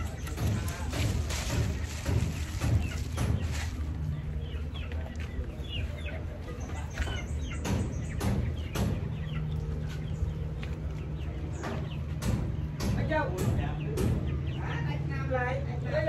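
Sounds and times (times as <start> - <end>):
chickens clucking: 0.0 - 16.0
high chirping calls: 0.0 - 16.0.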